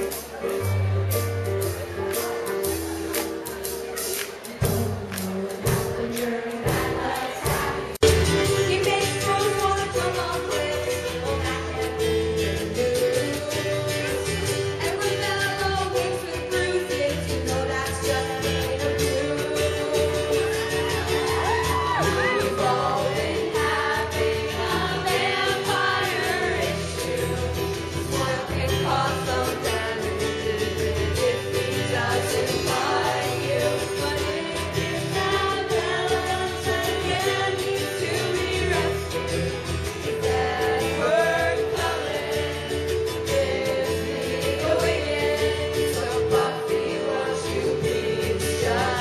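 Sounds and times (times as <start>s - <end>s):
ukulele strumming: 0.0s - 49.0s
woman singing into a microphone: 4.8s - 39.5s, 40.1s - 49.0s.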